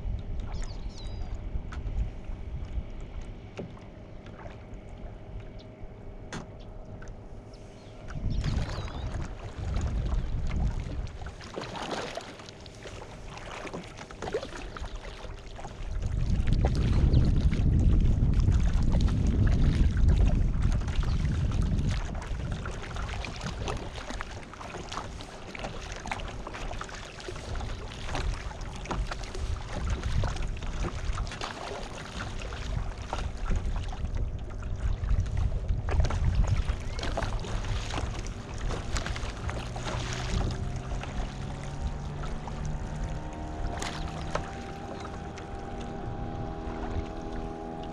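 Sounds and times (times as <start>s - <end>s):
wind buffeting microphone: 0.0s - 3.6s, 6.8s - 12.1s, 15.6s - 47.9s
paddle splashes: 0.0s - 5.5s, 6.2s - 47.9s
water lapping along hull: 0.0s - 47.9s.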